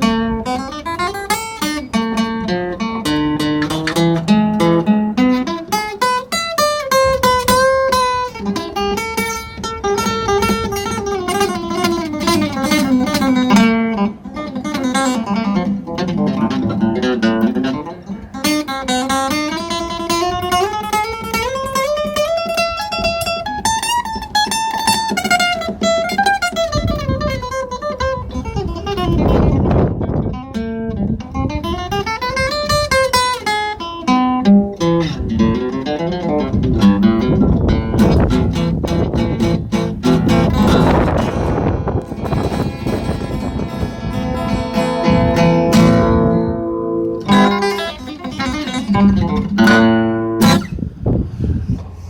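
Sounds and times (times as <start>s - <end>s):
solo guitar: 0.0s - 52.0s.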